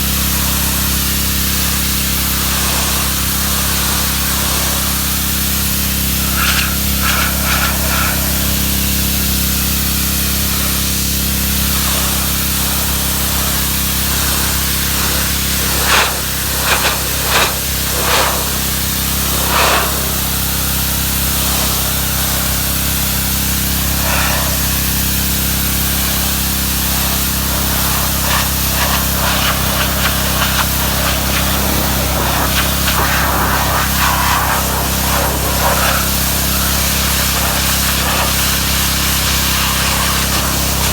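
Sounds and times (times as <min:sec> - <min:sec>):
pressure washer spraying: 0:00.0 - 0:40.9.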